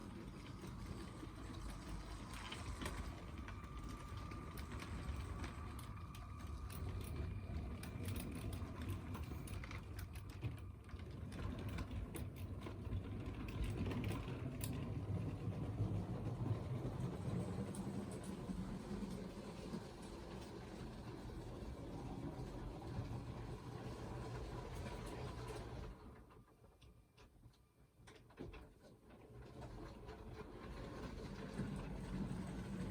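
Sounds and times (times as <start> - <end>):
wheels clicking on rails: 0.0 - 27.4, 28.1 - 32.9.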